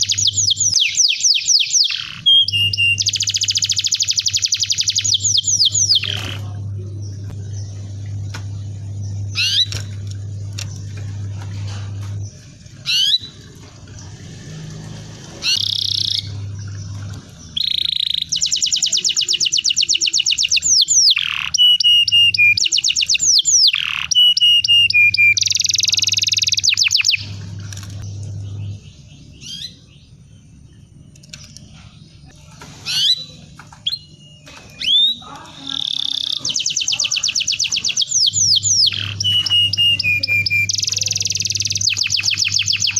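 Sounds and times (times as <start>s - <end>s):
canary singing: 0.0s - 42.9s
low electrical hum: 0.0s - 42.9s.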